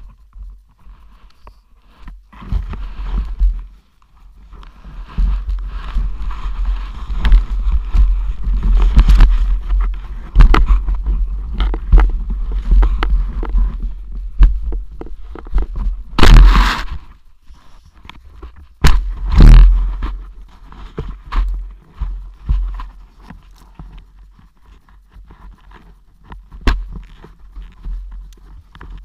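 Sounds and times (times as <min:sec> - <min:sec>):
snow scraping against camera: 0:00.0 - 0:29.0
wind rumble on microphone: 0:00.0 - 0:29.0.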